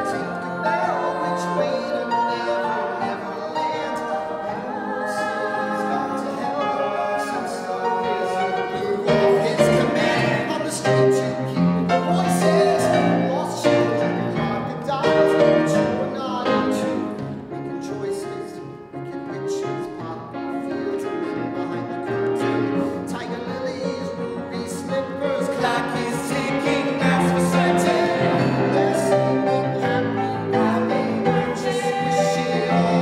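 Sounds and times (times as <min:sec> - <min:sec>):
man and woman singing together: 0:00.0 - 0:33.0
piano accompaniment: 0:00.0 - 0:33.0.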